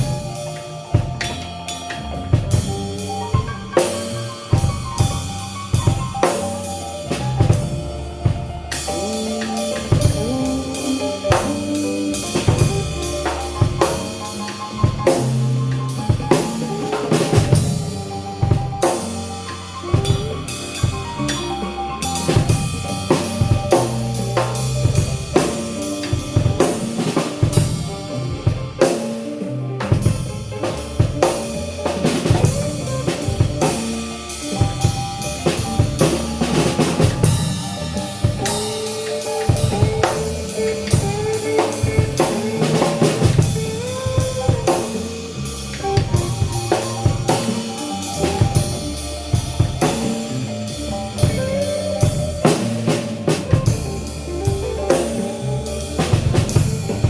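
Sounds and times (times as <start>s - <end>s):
band music: 0.0s - 57.0s
drum kit beat: 0.0s - 57.0s.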